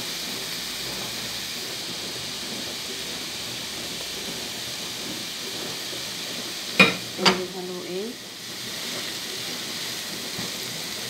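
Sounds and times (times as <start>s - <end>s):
broccoli sizzling in a frying pan: 0.0s - 11.0s.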